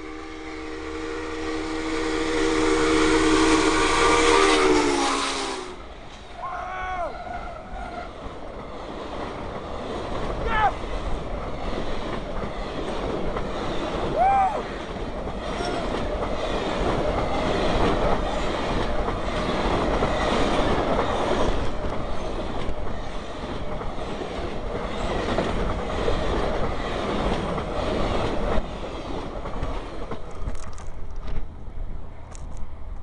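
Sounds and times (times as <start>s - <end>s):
passenger train rushing past: 0.0s - 33.0s.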